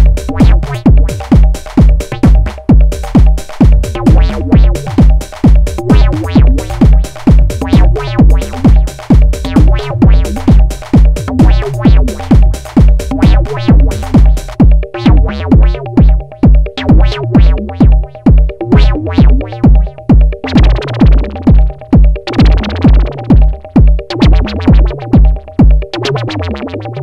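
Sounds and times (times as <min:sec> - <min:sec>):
kick drum: 0:00.0 - 0:26.0
ticking hi-hats: 0:00.0 - 0:26.0.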